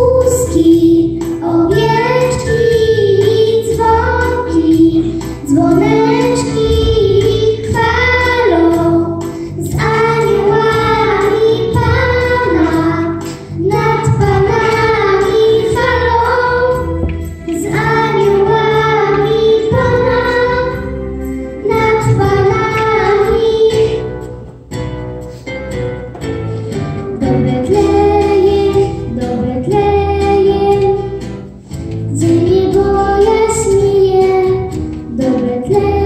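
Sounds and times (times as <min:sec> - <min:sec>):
girls singing: 0:00.0 - 0:24.2, 0:27.2 - 0:31.0, 0:32.1 - 0:36.0
low musical accompaniment: 0:00.0 - 0:36.0.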